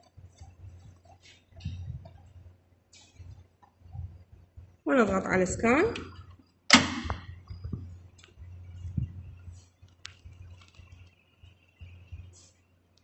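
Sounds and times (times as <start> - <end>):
low steady machine hum: 0.0 - 13.0.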